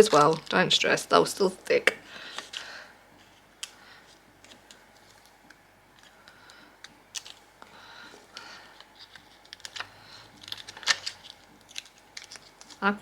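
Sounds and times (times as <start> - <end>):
soft paper rustle: 0.0 - 1.1, 2.2 - 13.0.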